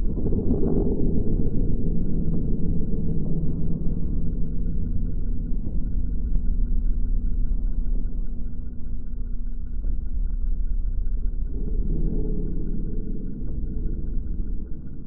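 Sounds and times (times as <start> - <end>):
deep rumbling drone: 0.0 - 15.0.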